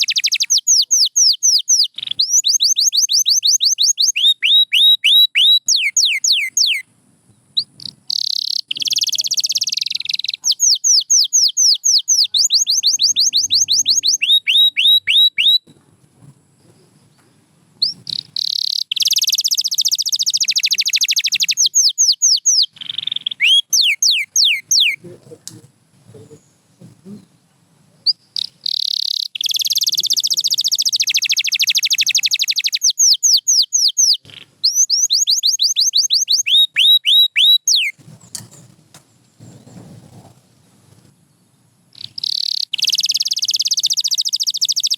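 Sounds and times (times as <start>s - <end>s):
canary singing: 0.0s - 6.9s, 7.6s - 15.8s, 17.8s - 25.4s, 28.0s - 38.8s, 41.9s - 44.9s.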